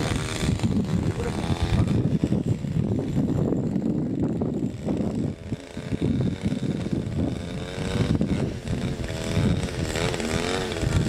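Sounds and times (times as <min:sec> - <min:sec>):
engine running steadily: 0:00.0 - 0:11.0
wind on microphone: 0:00.0 - 0:11.0.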